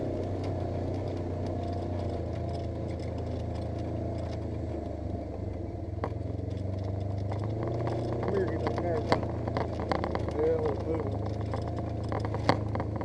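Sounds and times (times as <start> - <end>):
clattering and rattling: 0.0 - 13.0
engine running steadily: 0.0 - 13.0.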